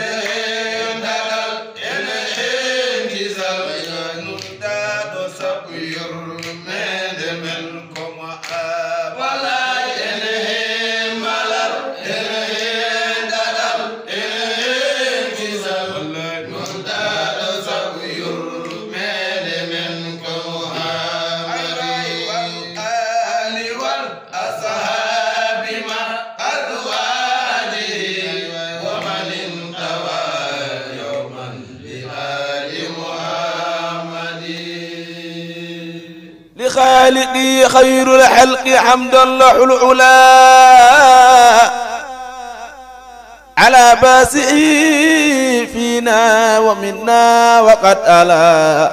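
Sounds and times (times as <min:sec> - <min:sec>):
men chanting: 0:00.0 - 0:48.9.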